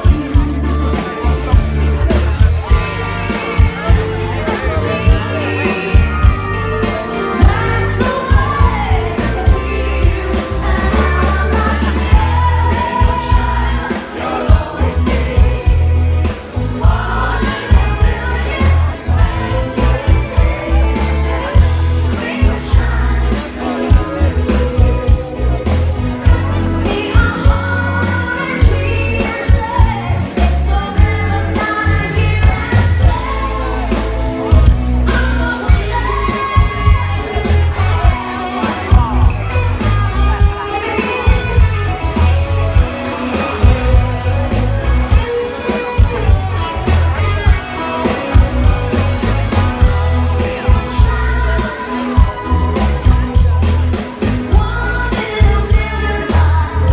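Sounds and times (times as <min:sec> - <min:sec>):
lead vocals singing: 0:00.0 - 0:56.9
live pop band playing: 0:00.0 - 0:56.9.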